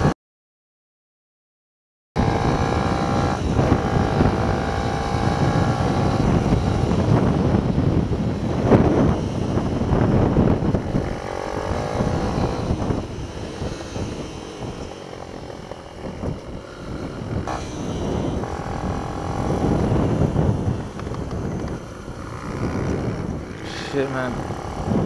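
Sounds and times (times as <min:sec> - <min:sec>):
mini-bike engine revving: 0:02.2 - 0:25.0
wind rumble on microphone: 0:02.2 - 0:25.0.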